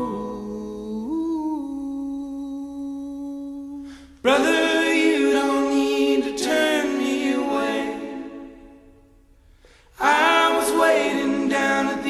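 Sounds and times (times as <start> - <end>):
chord of singing voices: 0.0 - 12.0
vocal music: 0.0 - 12.0.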